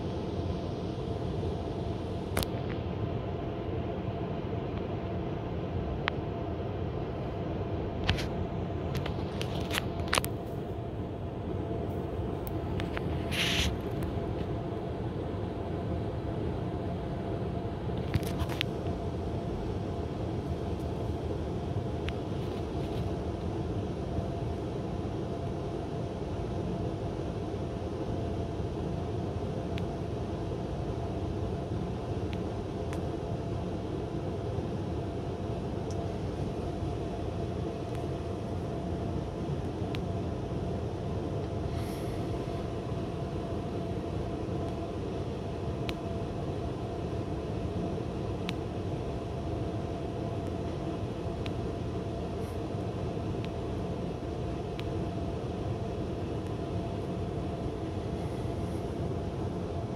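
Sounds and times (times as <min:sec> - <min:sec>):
air conditioner running: 0:00.0 - 0:59.9
faint steady hum: 0:00.0 - 0:59.9.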